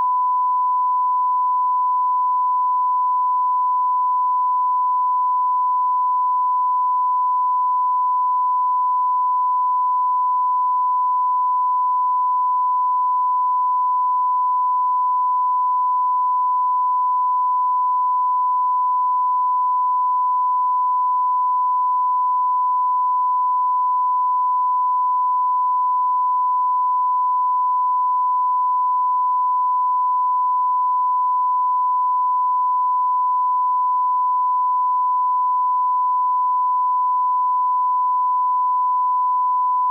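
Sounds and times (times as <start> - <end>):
censor bleep tone: 0.0 - 39.9.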